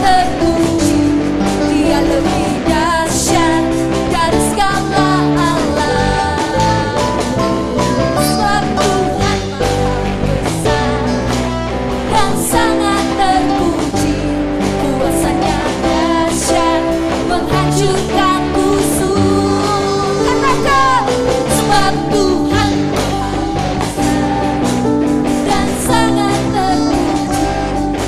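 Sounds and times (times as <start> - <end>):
guitar: 0.0 - 28.0
voices singing: 0.0 - 28.0
worship band playing: 0.0 - 28.0.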